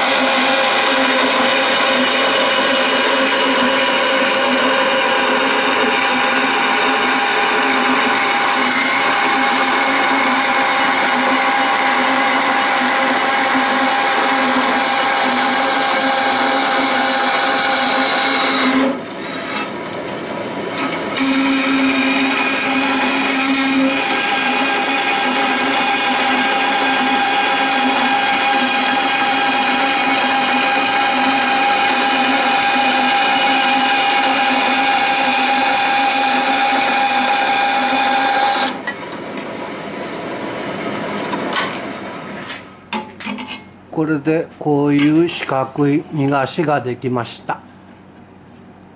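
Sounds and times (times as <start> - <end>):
rotary tool whining while cutting metal: 0.0 - 41.9.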